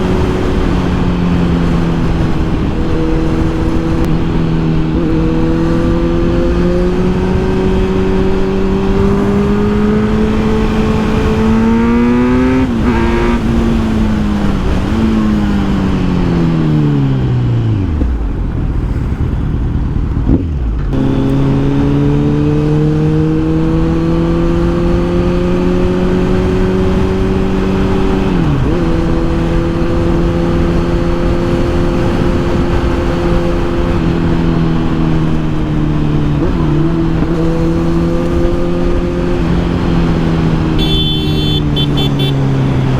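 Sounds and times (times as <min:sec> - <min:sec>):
wind on microphone: 0:00.0 - 0:40.9
motorcycle engine revving: 0:00.0 - 0:42.9.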